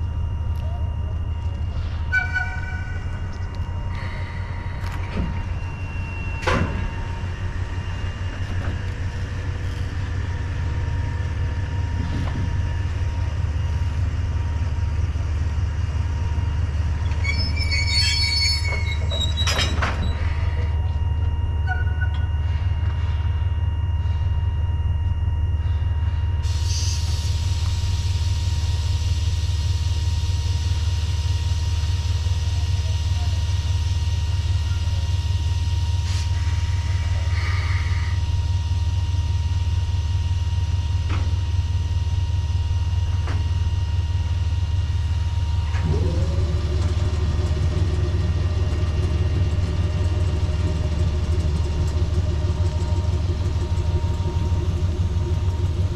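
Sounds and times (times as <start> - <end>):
locomotive low rumble: 0.0 - 55.9.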